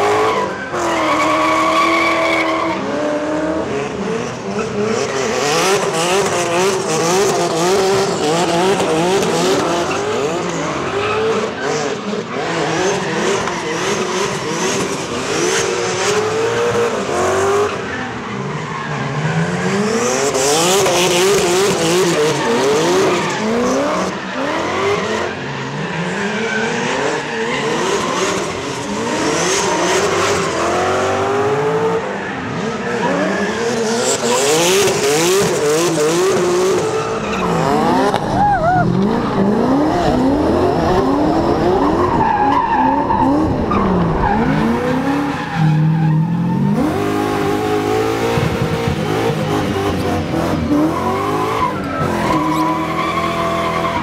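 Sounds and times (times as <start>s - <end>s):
car engines revving hard: 0.0s - 54.0s
tyres squealing and skidding: 0.0s - 54.0s.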